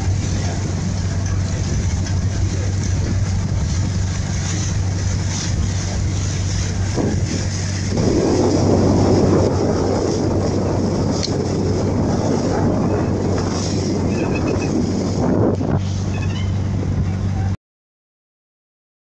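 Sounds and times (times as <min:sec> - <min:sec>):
boat engine drone: 0:00.0 - 0:17.6
wind and water rushing: 0:00.0 - 0:17.6.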